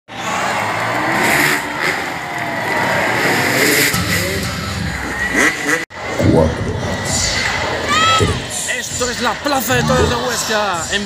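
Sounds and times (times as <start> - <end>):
motorcycle engines revving: 0.1 - 11.0.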